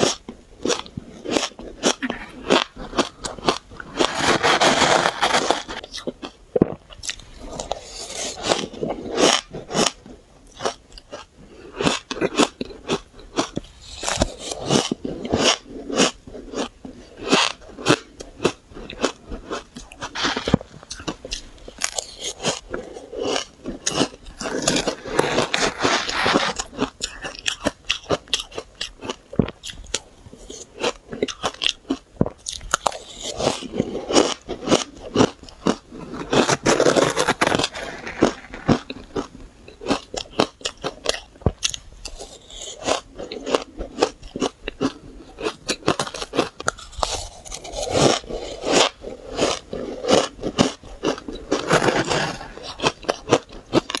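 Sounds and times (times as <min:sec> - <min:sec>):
chewing crunchy shaved ice: 0:00.0 - 0:54.0.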